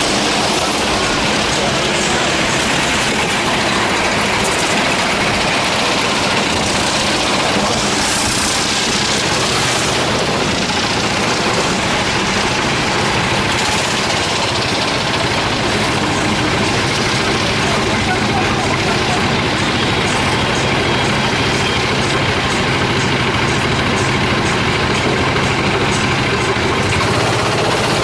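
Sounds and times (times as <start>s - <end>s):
kart engine droning: 0.0s - 28.0s
rushing wind noise: 0.0s - 28.0s.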